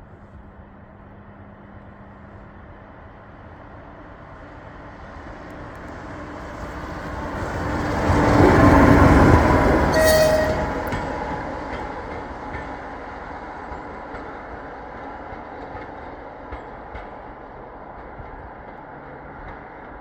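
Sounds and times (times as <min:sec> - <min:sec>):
railcar engine and wheels passing: 0:00.0 - 0:20.0.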